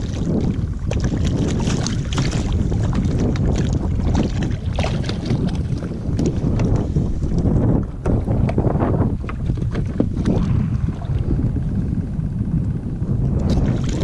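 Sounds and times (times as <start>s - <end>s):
water against kayak hull: 0.0s - 14.0s
wind rumble on microphone: 0.0s - 14.0s.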